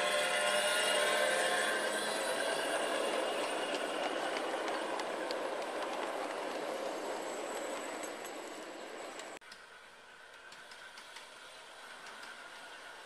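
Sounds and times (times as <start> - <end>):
train wheels rolling on track: 0.0 - 13.0
rail joint clicks: 1.0 - 13.0.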